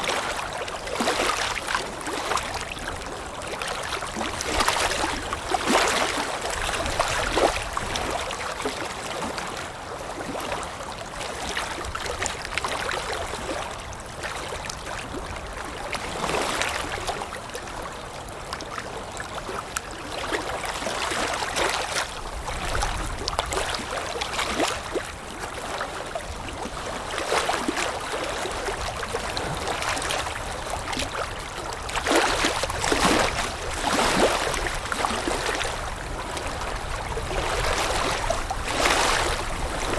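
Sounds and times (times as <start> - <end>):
water lapping: 0.0 - 39.9.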